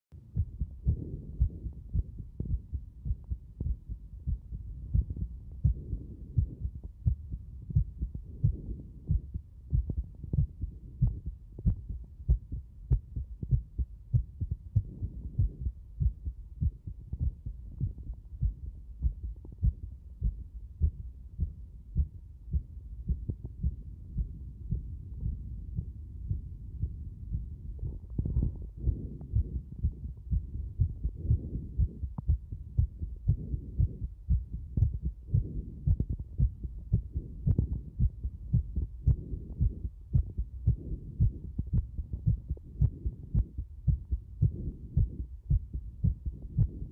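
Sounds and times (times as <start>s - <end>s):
fast heartbeat thumps: 0.2s - 46.9s.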